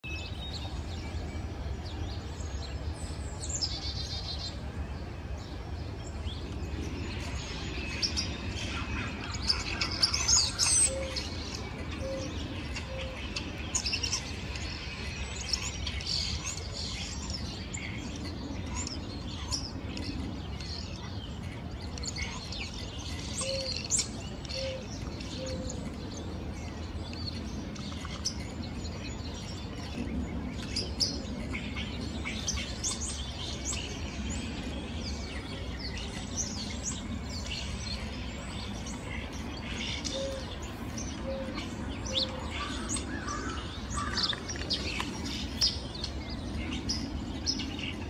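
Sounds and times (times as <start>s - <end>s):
birds chirping and whistling: 6.1s - 48.0s.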